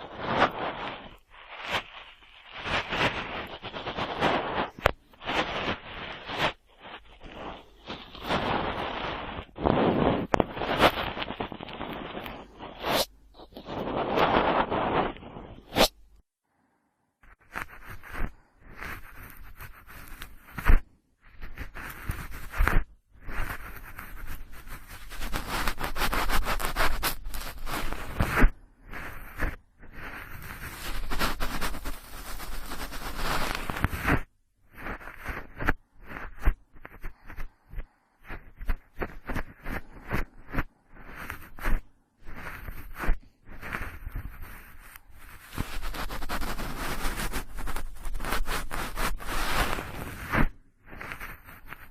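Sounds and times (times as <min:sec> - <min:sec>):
cotton swab rubbing microphone: 0:00.0 - 0:16.2, 0:17.2 - 0:51.9.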